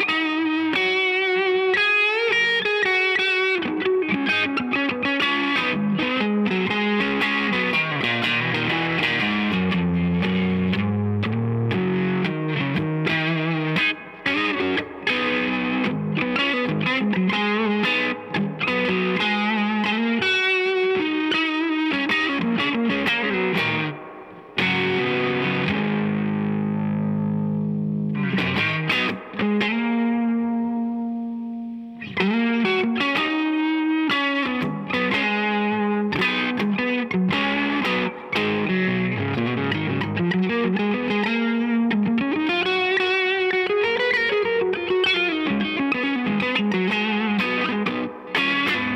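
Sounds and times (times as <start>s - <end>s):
overdriven electric guitar: 0.0s - 48.9s.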